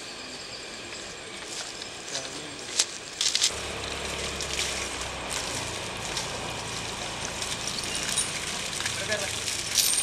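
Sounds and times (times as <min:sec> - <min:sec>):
hose water splashing on ground: 0:01.5 - 0:10.0.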